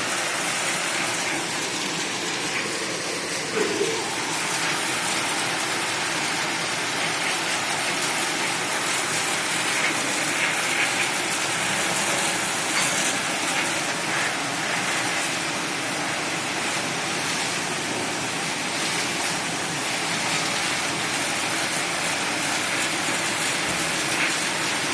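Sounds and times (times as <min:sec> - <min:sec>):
pressure washer spraying water: 0:00.0 - 0:24.9.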